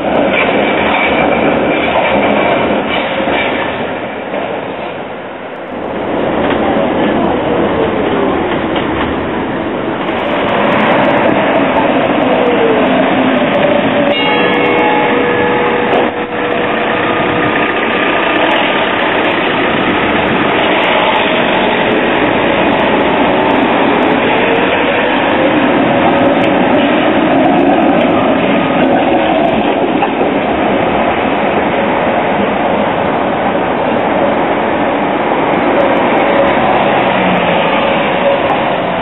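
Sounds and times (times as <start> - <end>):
tram passing close by: 0.0 - 39.0
tram rumbling on rails: 0.0 - 39.0
tram motor whine: 5.0 - 39.0.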